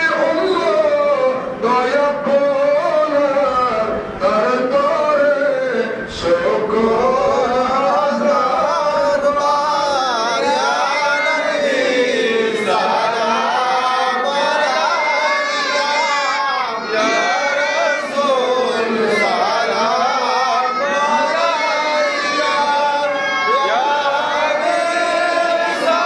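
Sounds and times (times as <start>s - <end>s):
man chanting melodically: 0.0s - 26.0s.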